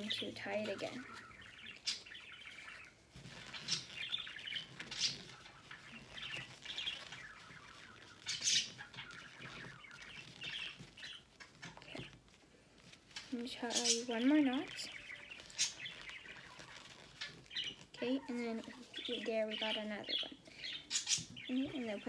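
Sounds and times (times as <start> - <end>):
pet birds chirping: 0.0 - 22.0.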